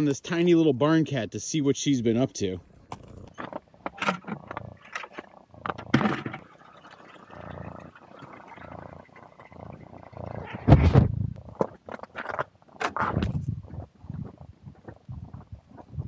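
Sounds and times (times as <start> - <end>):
murky rumble: 2.6 - 16.0.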